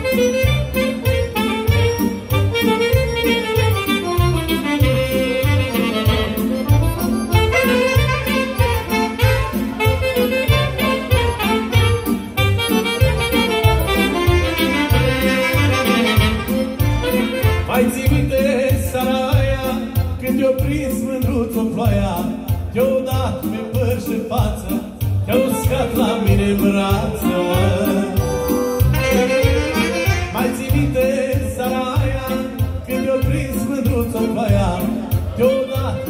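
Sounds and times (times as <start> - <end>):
live band over speakers: 0.0 - 36.0.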